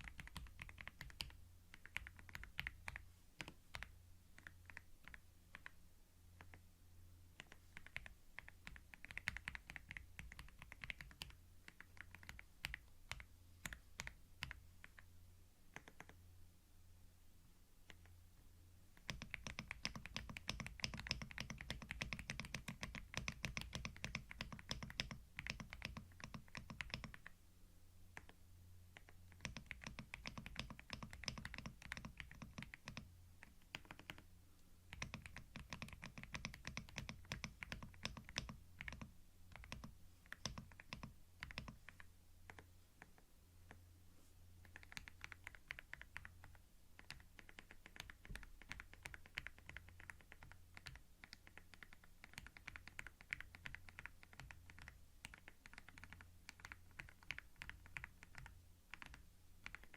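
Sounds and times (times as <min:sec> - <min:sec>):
typing on computer keyboard: 0:00.0 - 0:05.8, 0:07.4 - 0:15.1, 0:15.8 - 0:16.2, 0:19.0 - 0:27.3, 0:29.0 - 0:34.3, 0:34.9 - 0:43.8, 0:44.6 - 0:59.9
faint low hum: 0:00.0 - 0:59.9.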